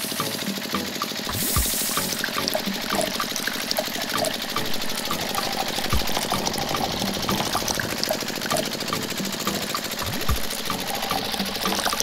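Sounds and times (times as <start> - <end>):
small electric pump whirring: 0.0 - 12.0
water pouring into bucket: 1.2 - 12.0.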